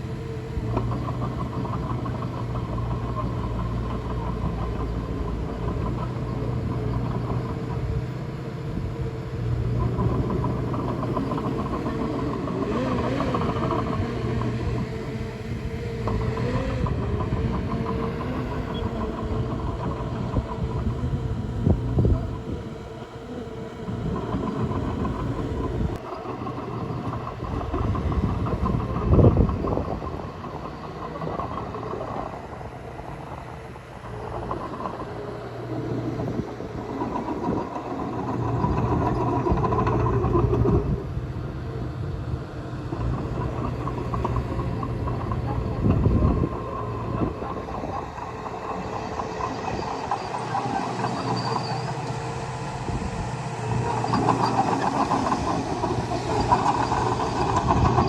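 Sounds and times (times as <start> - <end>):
bulldozer diesel engine: 0.0 - 58.0.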